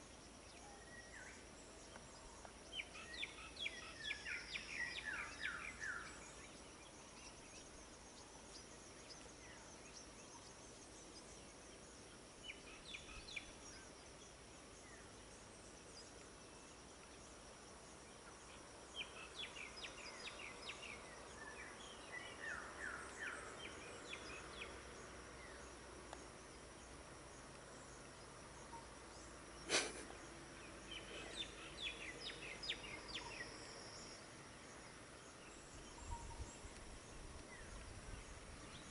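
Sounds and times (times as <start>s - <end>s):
birds chirping: 0.0s - 38.9s
insect drone: 0.0s - 38.9s.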